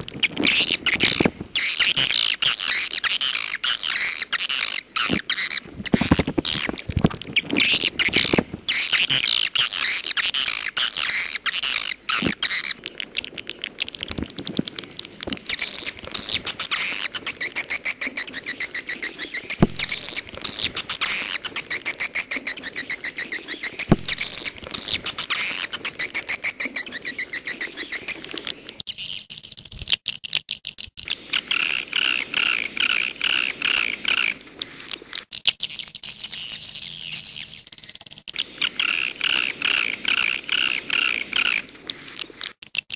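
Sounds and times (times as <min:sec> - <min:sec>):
swiftlet twittering chirps: 0:00.0 - 0:29.7, 0:31.1 - 0:42.5.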